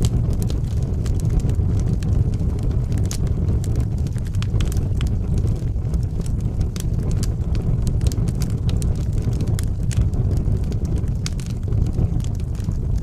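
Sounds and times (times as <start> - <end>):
fire roaring and crackling: 0.0 - 13.0.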